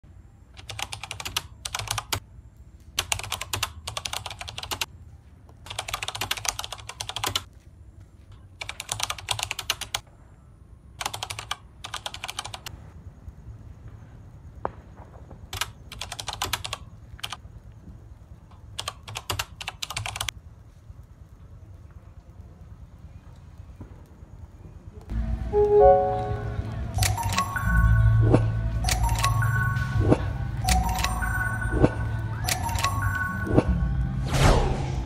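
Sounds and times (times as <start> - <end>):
faint steady hum: 0.0 - 8.7, 12.6 - 34.2.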